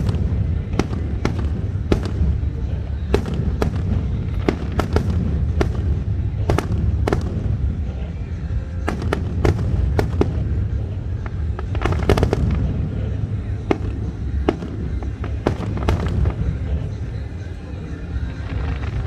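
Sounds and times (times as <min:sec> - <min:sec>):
fireworks bangs and pops: 0:00.0 - 0:19.0.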